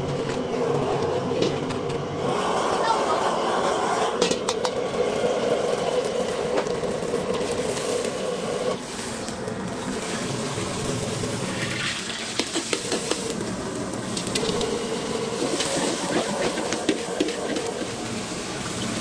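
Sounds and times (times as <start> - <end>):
broth boiling: 0.0 - 19.0.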